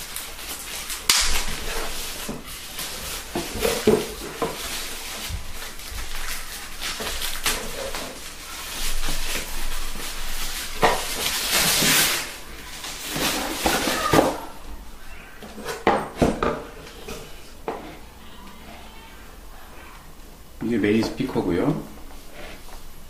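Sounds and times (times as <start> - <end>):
plastic wrap crinkling and rustling: 0.0 - 19.3.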